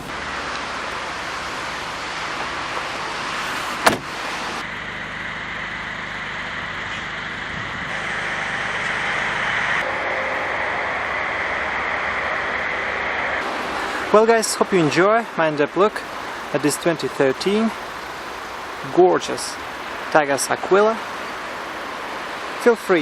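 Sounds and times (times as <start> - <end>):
car noise: 0.0 - 23.0.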